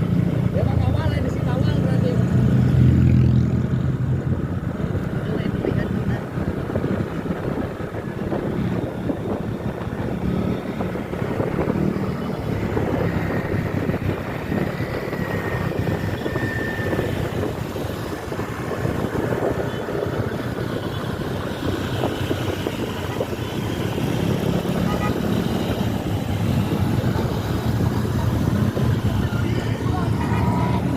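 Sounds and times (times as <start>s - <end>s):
road and wind noise: 0.0s - 30.9s.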